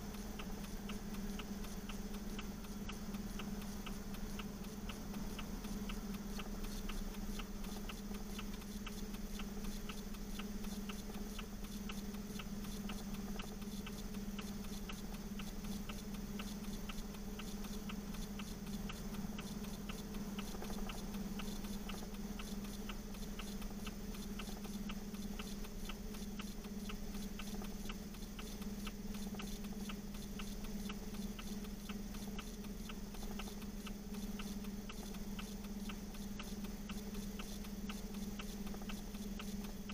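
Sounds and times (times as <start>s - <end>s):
fast even ticking: 0.0s - 39.9s.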